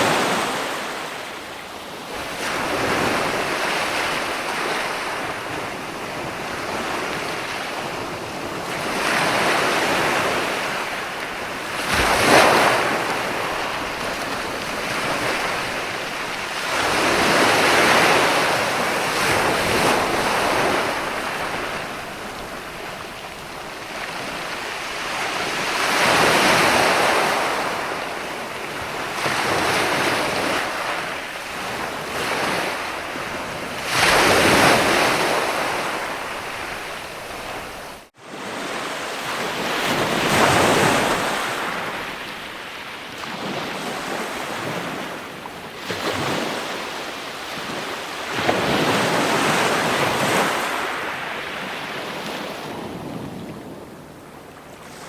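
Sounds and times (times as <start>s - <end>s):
ocean waves breaking ashore: 0.0s - 55.0s.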